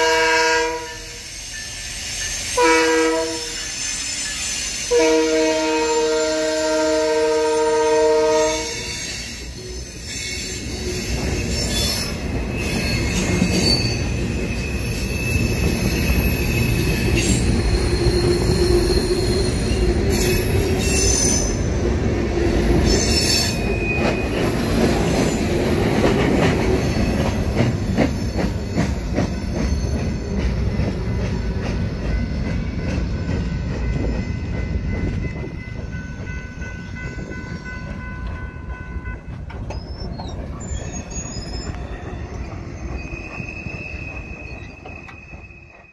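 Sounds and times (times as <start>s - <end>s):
freight train rolling past: 0.0s - 45.9s
steel wheels squealing on rails: 0.0s - 45.9s.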